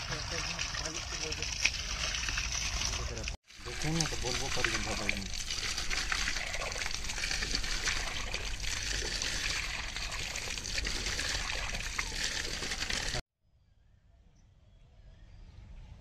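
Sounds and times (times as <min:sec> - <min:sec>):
water gushing from tap: 0:00.0 - 0:13.2
water splashing on stone: 0:00.0 - 0:13.2.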